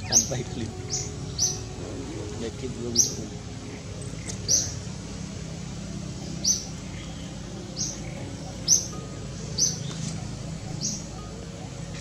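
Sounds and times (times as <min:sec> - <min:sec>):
bird high chirp: 0:00.0 - 0:12.0
steady low hum: 0:00.0 - 0:12.0.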